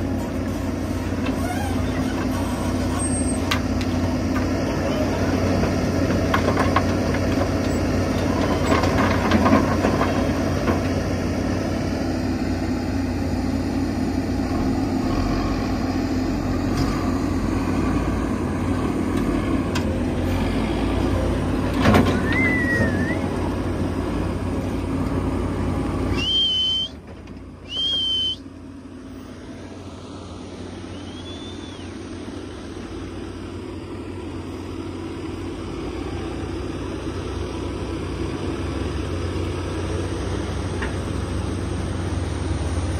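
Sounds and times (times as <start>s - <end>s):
excavator diesel engine: 0.0s - 42.9s.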